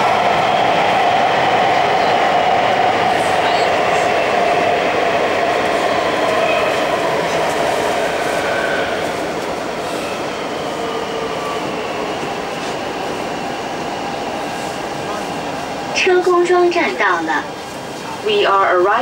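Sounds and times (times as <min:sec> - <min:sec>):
train wheel and rail rumble: 0:00.0 - 0:19.0.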